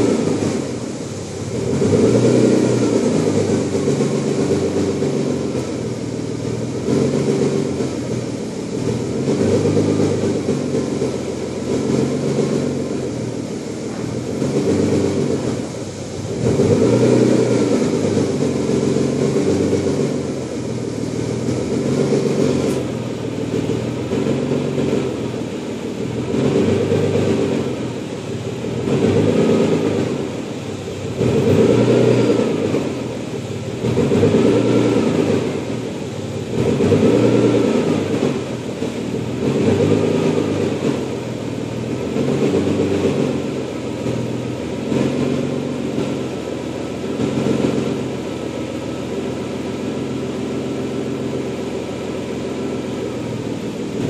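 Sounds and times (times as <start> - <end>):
car engine idling unevenly: 0.0 - 54.0.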